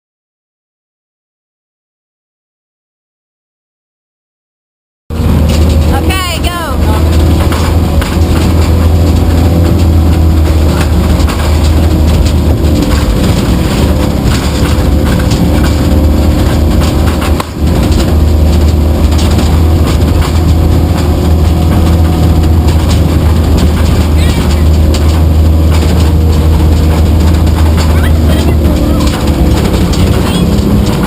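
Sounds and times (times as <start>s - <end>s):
truck engine rumble: 5.1s - 31.0s.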